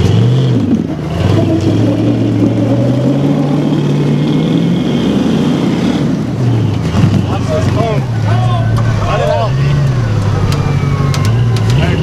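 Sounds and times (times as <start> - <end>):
truck engine under load: 0.0 - 12.0.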